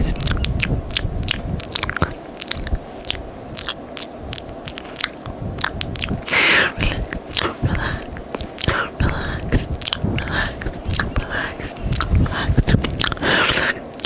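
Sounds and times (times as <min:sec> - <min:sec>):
breathy hiss: 0:00.0 - 0:14.0
tongue and lip clicks: 0:00.0 - 0:14.0.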